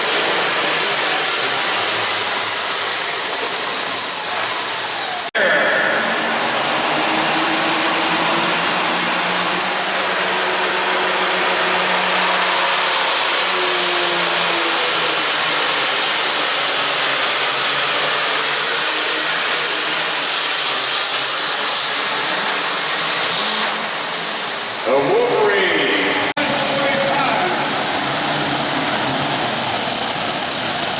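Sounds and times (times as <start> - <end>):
tractor engine running flat out: 0.0 - 30.9.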